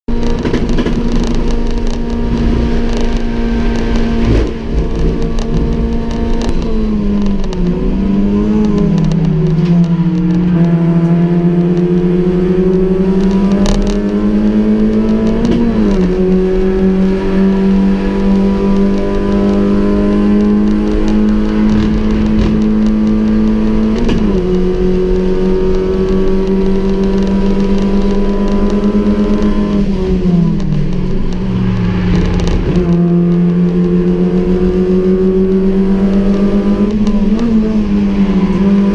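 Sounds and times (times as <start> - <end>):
car engine at high revs: 0.1 - 38.9.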